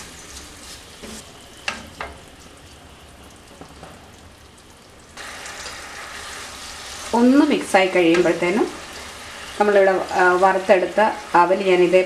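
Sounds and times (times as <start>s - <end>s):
low sizzle: 0.0s - 12.0s.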